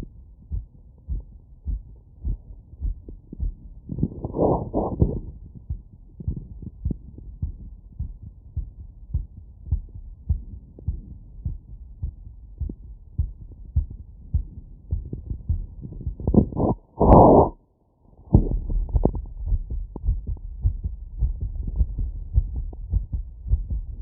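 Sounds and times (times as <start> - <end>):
heartbeat through stethoscope: 0.0 - 17.6, 18.3 - 24.0.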